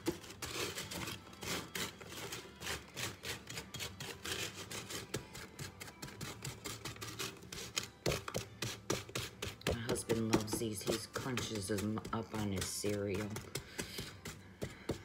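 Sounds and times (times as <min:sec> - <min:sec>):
spatula scraping baking sheet: 0:00.0 - 0:15.0.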